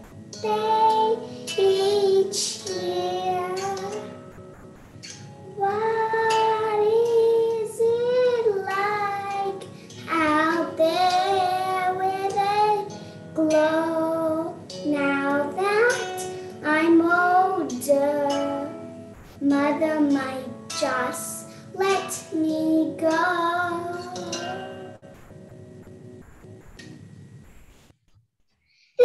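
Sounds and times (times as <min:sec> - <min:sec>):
girl singing: 0:00.0 - 0:04.3, 0:05.4 - 0:25.0.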